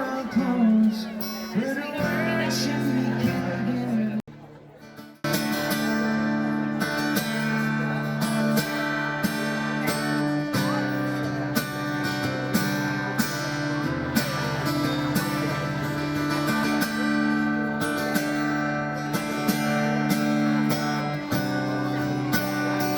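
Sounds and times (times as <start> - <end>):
strummed acoustic guitar music: 0.0 - 22.9.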